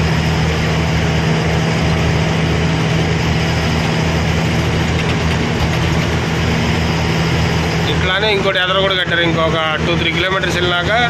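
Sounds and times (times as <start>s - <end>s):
road noise: 0.0s - 11.0s
truck diesel engine droning: 0.0s - 11.0s.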